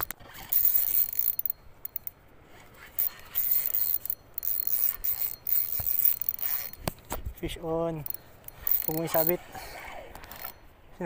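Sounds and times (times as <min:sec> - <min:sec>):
fishing reel whirring: 0:00.0 - 0:07.0, 0:07.6 - 0:10.7.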